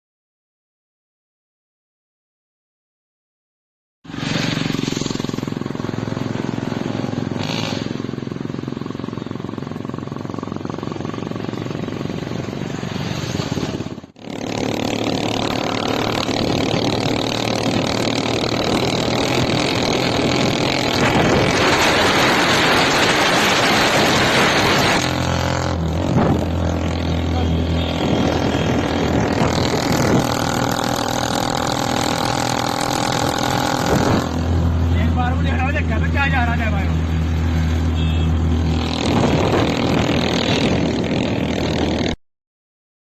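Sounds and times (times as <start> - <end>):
motorcycle engine running: 4.1 - 42.2.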